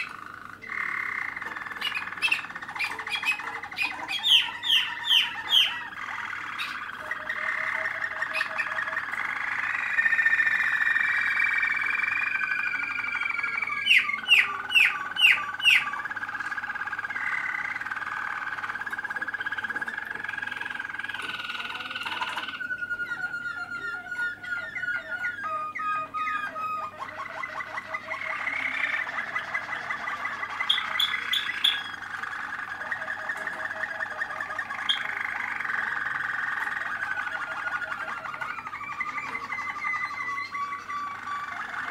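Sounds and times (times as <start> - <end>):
canary song rolls and trills: 0.0 - 41.9
loud sharp bird notes: 0.0 - 41.9.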